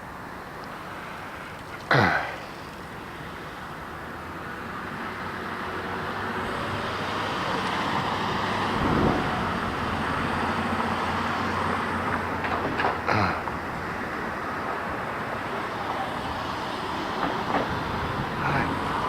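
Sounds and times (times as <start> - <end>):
vehicle passing on street: 0.8 - 19.0.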